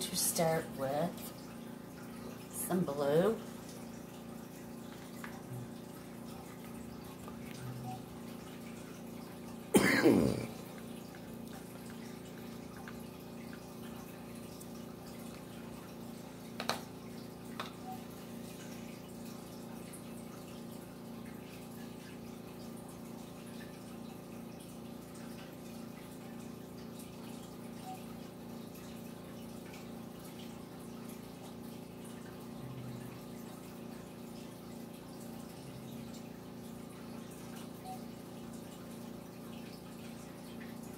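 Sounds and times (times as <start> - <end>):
steady background hum: 0.0 - 40.9.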